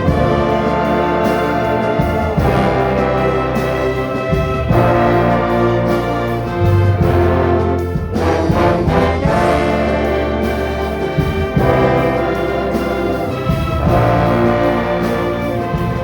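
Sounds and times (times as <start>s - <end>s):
orchestra playing a hymn: 0.0s - 16.0s.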